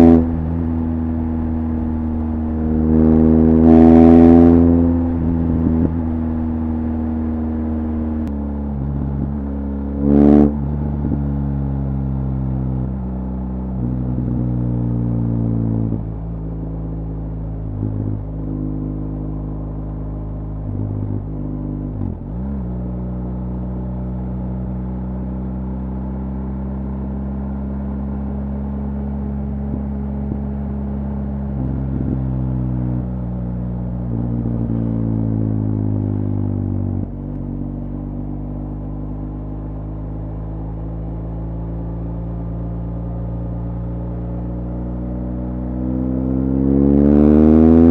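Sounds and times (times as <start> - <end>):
motorcycle engine cruising: 0.0 - 47.9.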